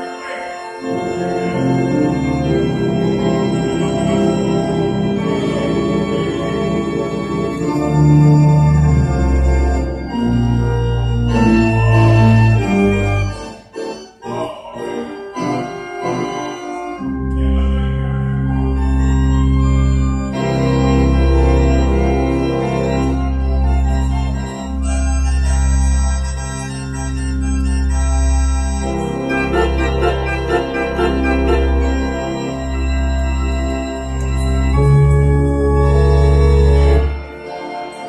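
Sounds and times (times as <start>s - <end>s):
pipe organ playing hymn: 0.0s - 38.0s.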